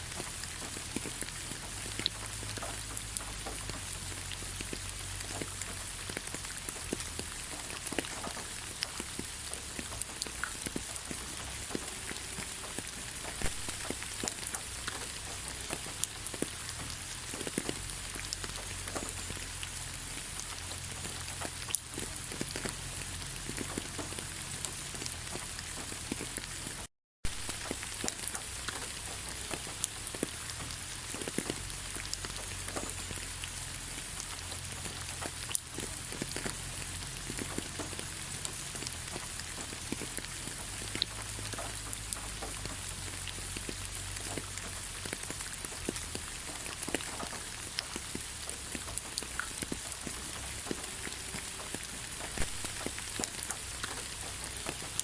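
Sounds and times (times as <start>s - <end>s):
rain falling on forest: 0.0s - 55.0s.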